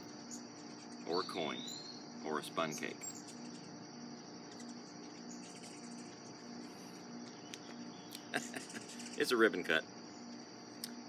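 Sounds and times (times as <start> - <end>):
insects chirring: 0.0 - 11.0
pulsing low hum: 0.0 - 11.0.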